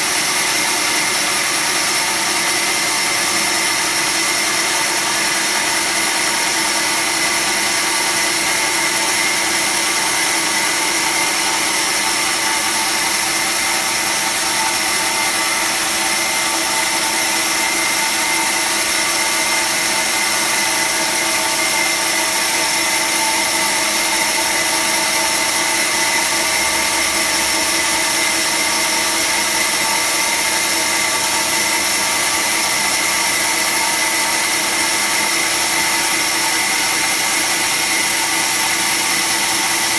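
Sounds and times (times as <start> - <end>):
band saw whining: 0.0 - 39.9.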